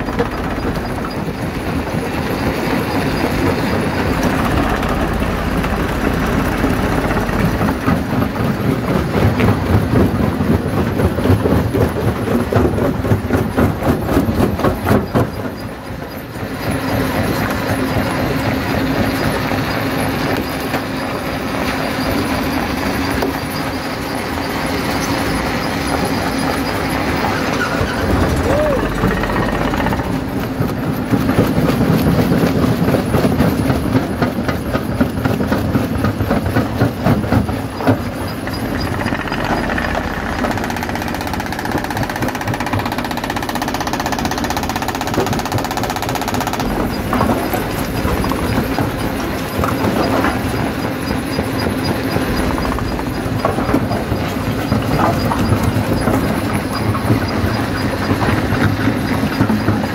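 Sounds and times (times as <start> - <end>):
jaw crusher rumbling: 0.0 - 59.9.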